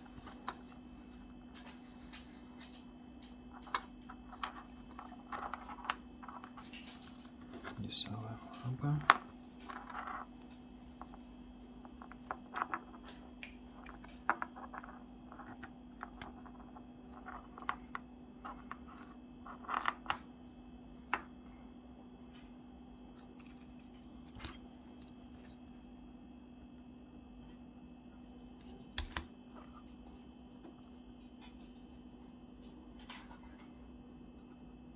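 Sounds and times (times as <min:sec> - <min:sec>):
faint low hum: 0:00.0 - 0:34.9.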